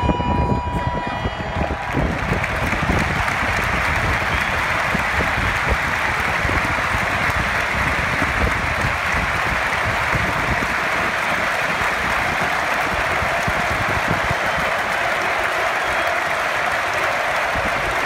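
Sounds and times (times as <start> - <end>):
stadium crowd applauding: 0.0 - 18.0.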